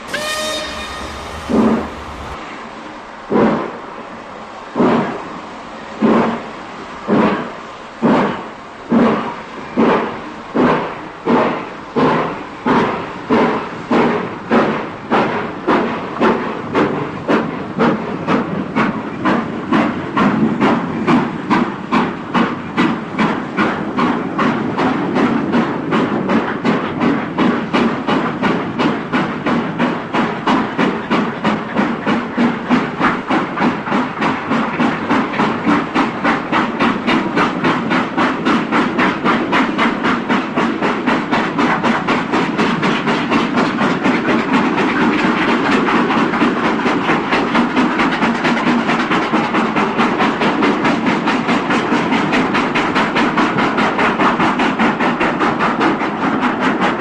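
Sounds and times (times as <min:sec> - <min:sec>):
steam locomotive chuffing: 0:00.0 - 0:02.4, 0:08.9 - 0:57.0.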